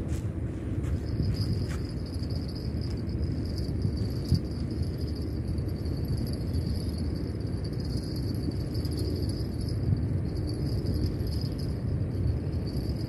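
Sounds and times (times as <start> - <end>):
low outdoor rumble: 0.0 - 13.0
high-pitched insect drone: 1.0 - 13.0.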